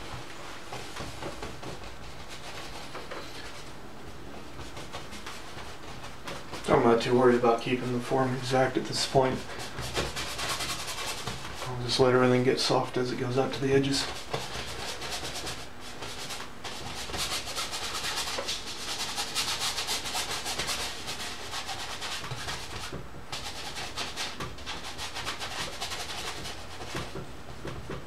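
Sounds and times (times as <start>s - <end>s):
paintbrush scrubbing on canvas: 0.0s - 27.2s.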